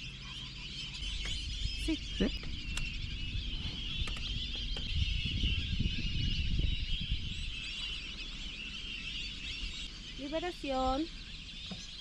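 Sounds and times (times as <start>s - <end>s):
many birds chattering: 0.0s - 12.0s
low rumble: 1.0s - 10.7s.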